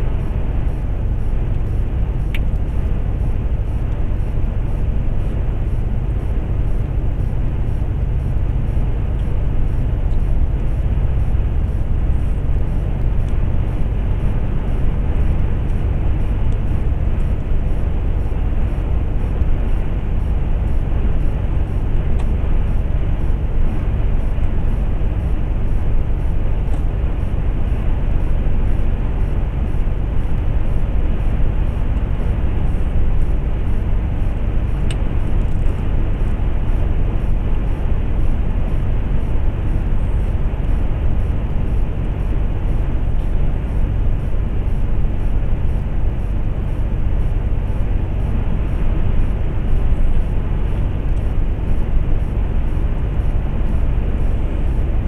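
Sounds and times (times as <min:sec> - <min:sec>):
lorry engine and road rumble: 0:00.0 - 0:55.0.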